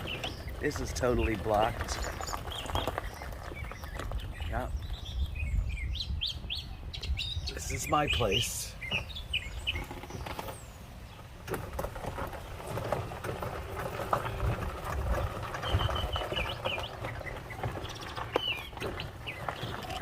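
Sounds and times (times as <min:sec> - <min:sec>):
birds chirping: 0:00.0 - 0:20.0
low rumbling: 0:00.0 - 0:20.0.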